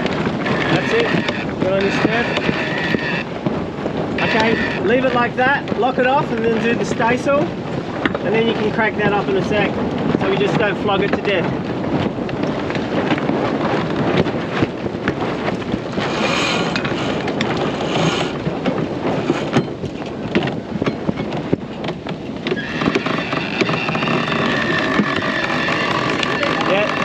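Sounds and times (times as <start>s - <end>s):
water rushing along hull: 0.0s - 27.0s
wind on microphone: 0.0s - 27.0s.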